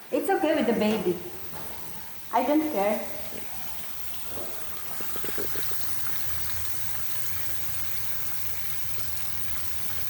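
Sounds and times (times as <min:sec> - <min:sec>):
water running from a tap: 0:00.8 - 0:10.0.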